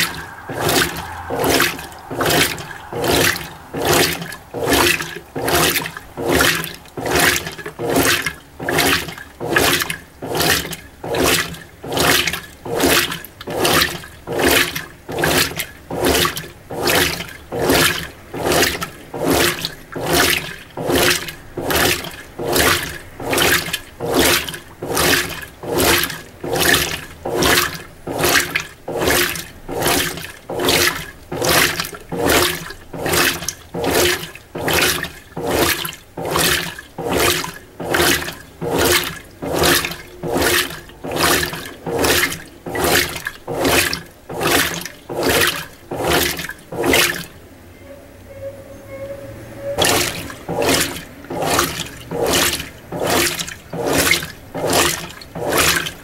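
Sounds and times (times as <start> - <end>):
water and clothes sloshing: 0.0 - 47.5, 48.3 - 56.0
washing machine agitating: 0.0 - 56.0.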